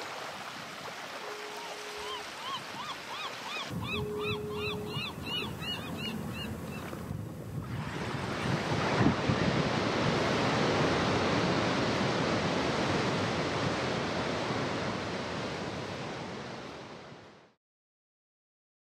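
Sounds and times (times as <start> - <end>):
ocean waves breaking: 0.0 - 17.4.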